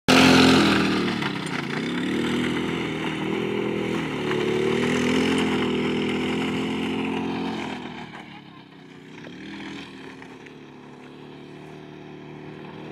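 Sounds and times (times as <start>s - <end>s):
quad engine revving: 0.1s - 12.9s.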